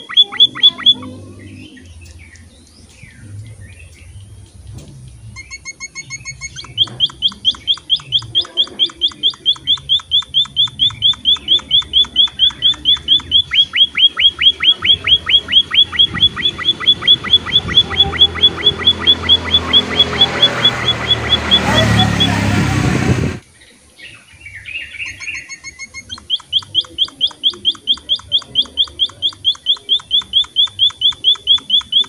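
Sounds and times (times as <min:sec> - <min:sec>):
rapid high bird chirps: 0:00.0 - 0:22.6, 0:24.0 - 0:32.0
finch song: 0:00.0 - 0:32.0.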